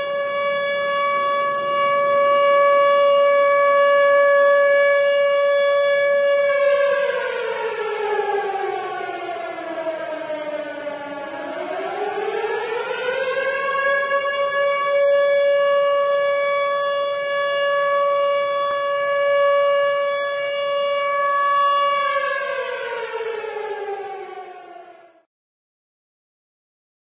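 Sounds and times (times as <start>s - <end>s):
tornado siren wailing: 0.0s - 25.3s.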